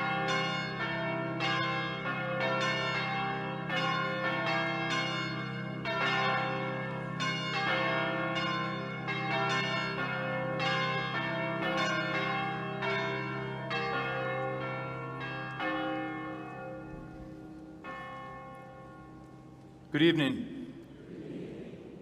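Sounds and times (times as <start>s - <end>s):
church bells ringing: 0.0s - 20.9s.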